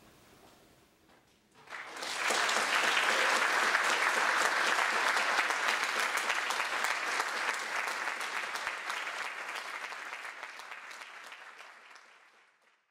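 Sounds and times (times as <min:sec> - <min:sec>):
audience applauding: 0:01.6 - 0:12.9.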